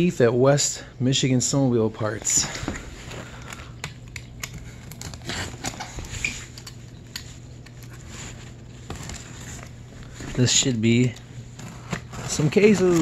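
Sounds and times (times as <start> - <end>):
low steady hum: 0.0 - 13.0
plastic wrap rustling: 2.0 - 13.0.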